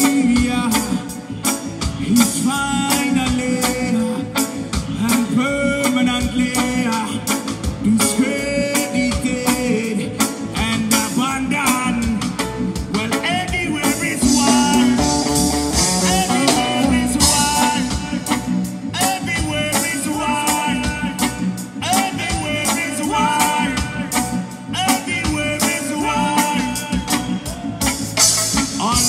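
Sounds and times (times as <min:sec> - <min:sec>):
man singing: 0:00.0 - 0:29.0
reggae band playing: 0:00.0 - 0:29.0.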